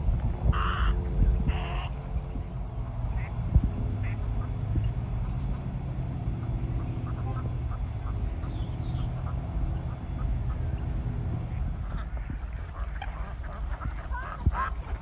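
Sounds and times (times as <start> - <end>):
steady low rumble: 0.0 - 15.0
ducks quacking: 0.5 - 15.0.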